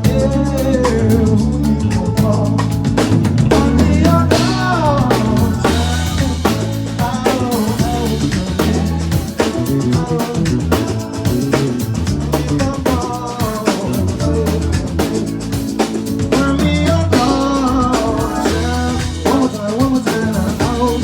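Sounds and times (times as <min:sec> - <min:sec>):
band playing with drums and bass: 0:00.0 - 0:21.0.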